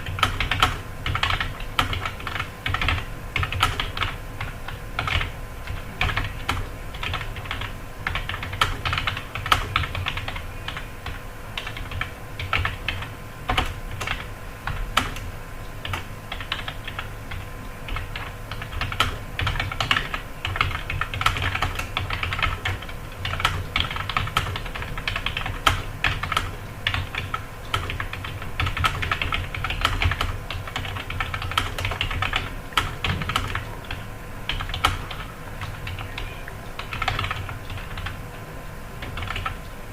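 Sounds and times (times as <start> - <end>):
fast keyboard typing: 0.0 - 38.2, 39.0 - 39.6.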